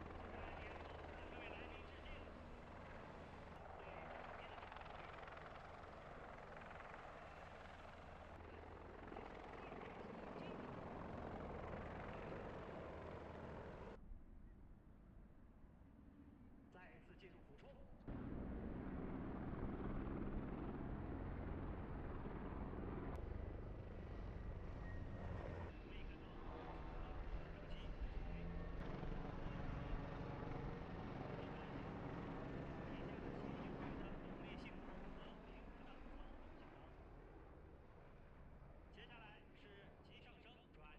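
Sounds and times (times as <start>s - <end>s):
helicopter rotor and turbine: 0.0s - 16.7s, 18.0s - 40.9s.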